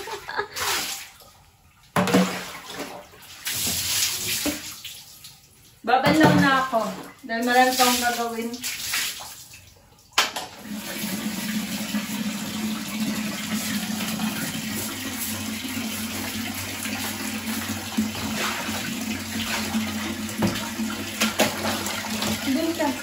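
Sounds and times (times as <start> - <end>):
water running and splashing: 0.0 - 23.0.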